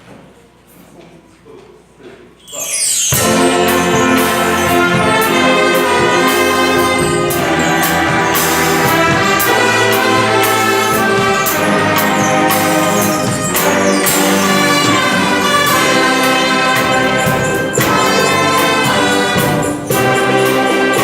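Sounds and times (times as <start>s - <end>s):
brass band playing: 3.0s - 21.0s.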